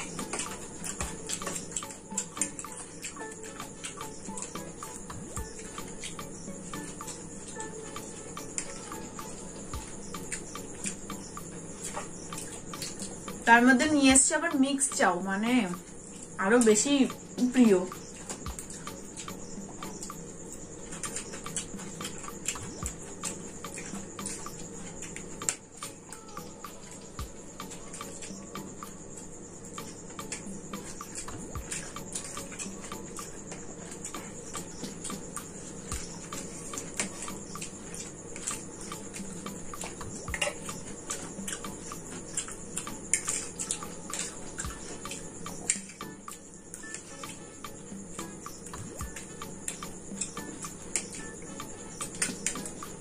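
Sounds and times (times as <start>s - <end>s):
chewing: 0.0s - 13.4s, 17.9s - 28.9s, 29.7s - 47.5s, 48.1s - 53.0s
background music with ticking beat: 0.0s - 53.0s.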